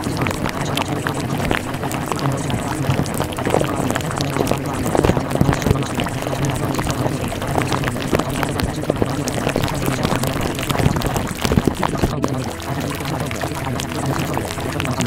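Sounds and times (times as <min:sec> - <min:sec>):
low steady hum: 0:00.0 - 0:15.0
water pouring and bubbling: 0:00.0 - 0:15.0.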